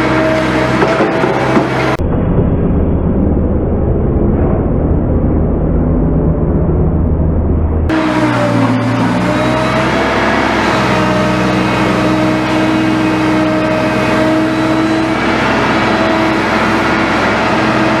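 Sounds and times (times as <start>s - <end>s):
constant whine: 0.0s - 18.0s
excavator diesel engine running: 0.0s - 18.0s.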